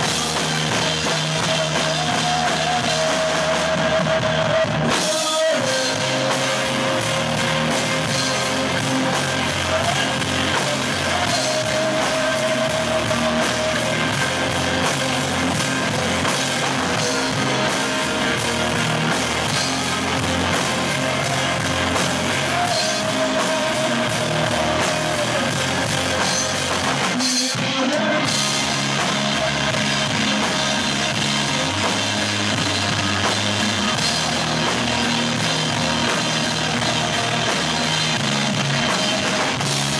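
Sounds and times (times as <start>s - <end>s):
live rock band: 0.0s - 39.9s
man singing: 0.0s - 39.9s.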